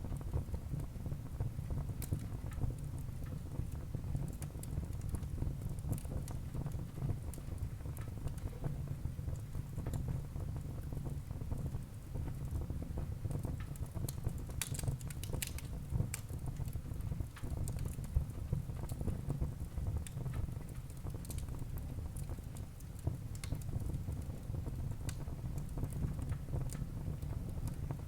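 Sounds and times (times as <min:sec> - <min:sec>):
wood fire crackling: 0:01.6 - 0:28.0.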